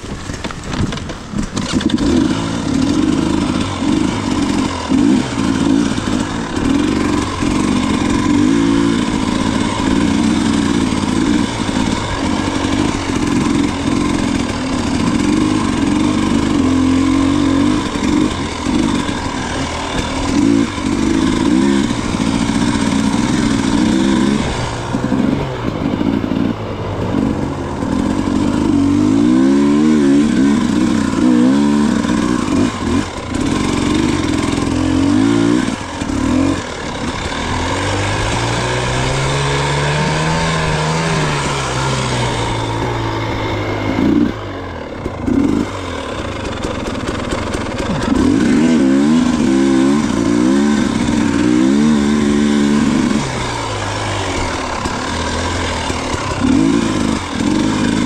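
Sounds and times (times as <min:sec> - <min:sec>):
off-road motorcycle engine revving: 0:00.0 - 0:58.0.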